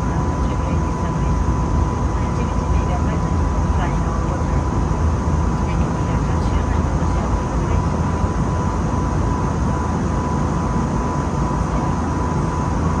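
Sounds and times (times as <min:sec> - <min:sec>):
airplane cabin engine roar: 0:00.0 - 0:13.0.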